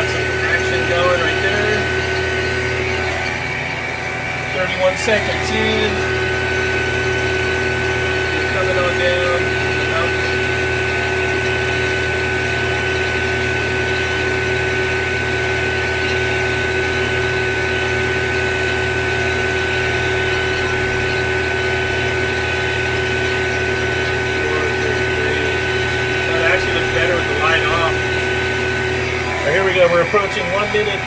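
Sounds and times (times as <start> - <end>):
vacuum pump humming and whining: 0.0 - 31.0.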